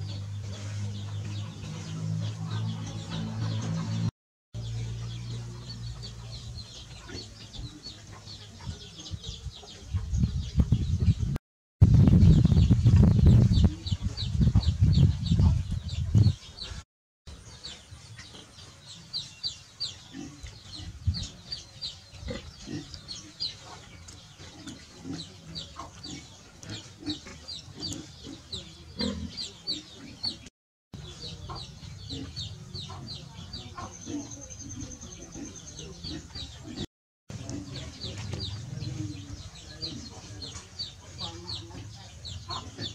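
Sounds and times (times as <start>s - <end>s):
chickens clucking: 0.0s - 11.2s, 13.0s - 42.9s.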